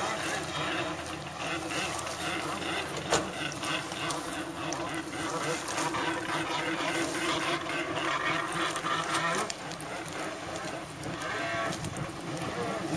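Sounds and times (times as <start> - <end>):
jet ski engine running: 0.0 - 12.9.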